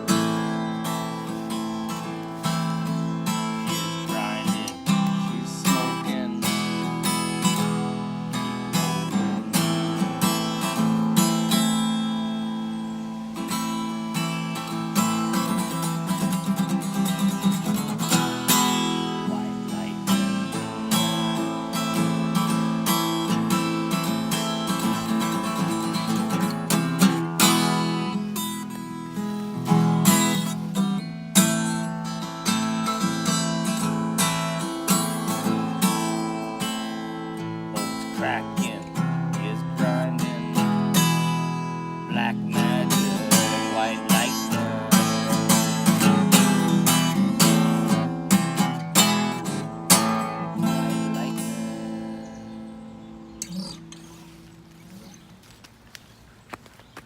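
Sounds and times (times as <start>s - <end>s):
acoustic guitar strumming chords: 0.0s - 55.1s.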